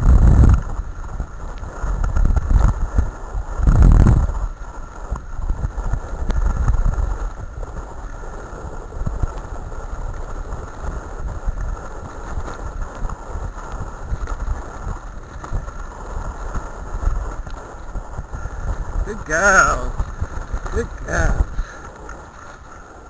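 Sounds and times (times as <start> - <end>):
wheeled rig rumbling on dirt: 0.0 - 23.0
wind buffeting microphone: 0.0 - 23.0.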